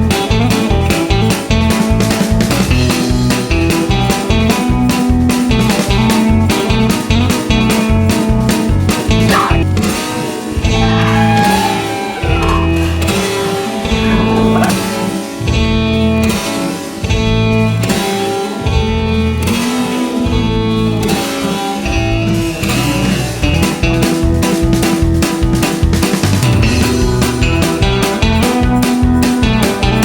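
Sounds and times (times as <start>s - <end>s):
guitar rock instrumental: 0.0s - 30.0s.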